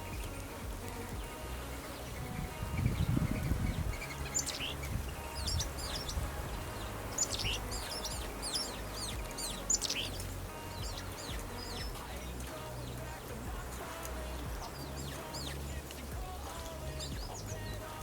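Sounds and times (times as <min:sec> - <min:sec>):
low rumble: 0:00.0 - 0:18.0
small birds chirping: 0:00.0 - 0:18.0.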